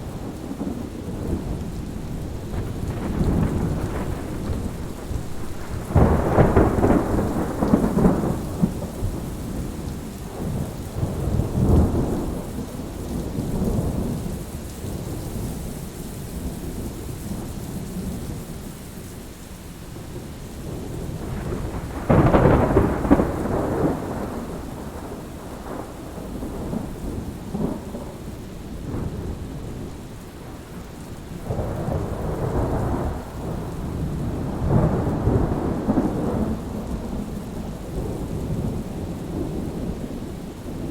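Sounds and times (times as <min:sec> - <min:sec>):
rolling thunder: 0:00.0 - 0:15.2, 0:20.0 - 0:40.9
steady rain: 0:00.0 - 0:40.9.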